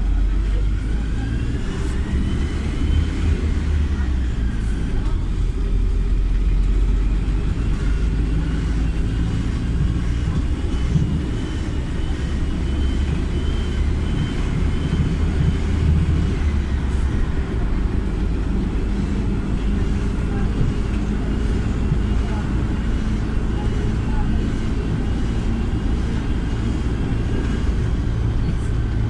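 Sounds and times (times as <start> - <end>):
bus engine low rumble: 0.0 - 29.0.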